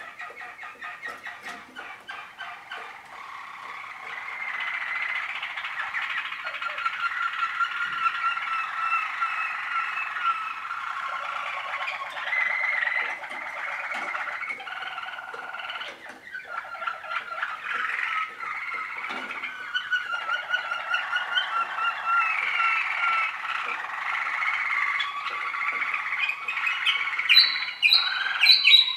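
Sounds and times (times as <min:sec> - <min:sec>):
canaries singing trills: 0:00.0 - 0:28.9.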